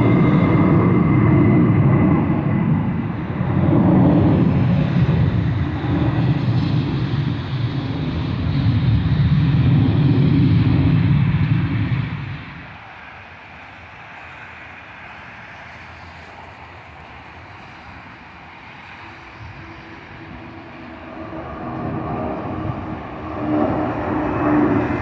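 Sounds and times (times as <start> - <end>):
high jet whine: 0.0 - 25.0
jet engine rumble: 0.0 - 25.0.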